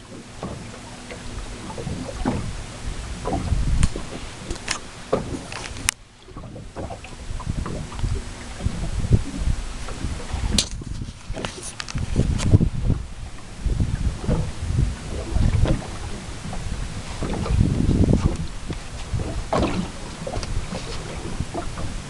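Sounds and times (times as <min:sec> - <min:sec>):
low thumps: 0:00.0 - 0:22.0
water splashing against hull: 0:00.0 - 0:22.0
wind rushing across microphone: 0:00.0 - 0:22.0.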